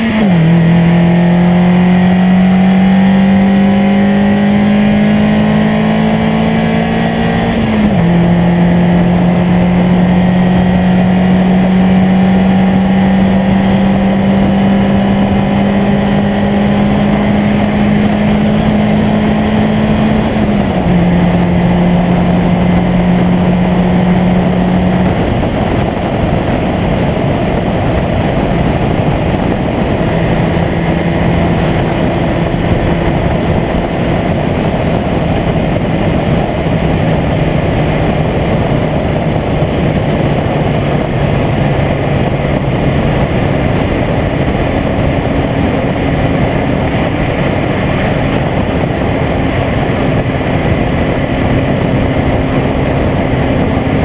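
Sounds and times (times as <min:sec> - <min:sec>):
car engine hum at cruise: 0:00.0 - 0:54.0
road and wind noise: 0:00.0 - 0:54.0.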